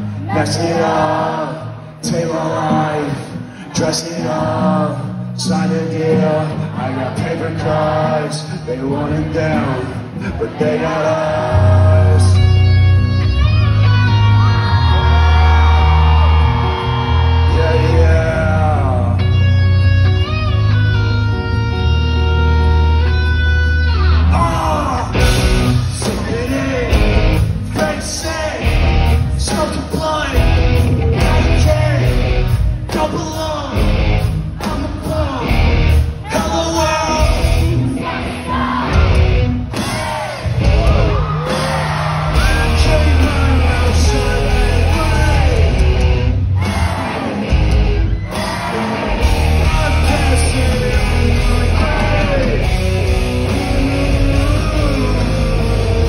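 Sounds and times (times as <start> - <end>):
person singing and yelling: 0.0 - 13.0, 14.0 - 19.6, 23.9 - 34.0, 34.6 - 56.0
live rock band: 0.0 - 56.0.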